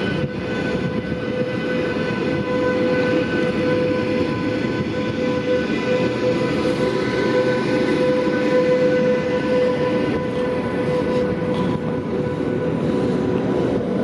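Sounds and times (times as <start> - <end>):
electric train whine: 0.0 - 14.0
train rumbling running noise: 0.0 - 14.0.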